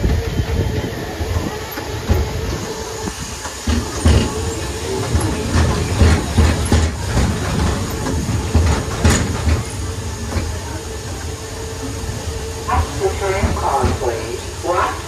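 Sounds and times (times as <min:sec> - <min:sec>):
knocks and rattles from tram car: 0:00.0 - 0:15.0
tram rumbling over wooden planks: 0:00.0 - 0:15.0.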